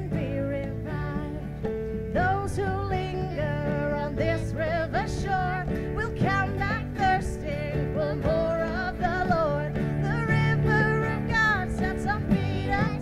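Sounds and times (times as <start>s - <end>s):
strummed acoustic guitar: 0.0s - 13.0s
ukulele: 0.0s - 13.0s
woman singing: 0.0s - 13.0s.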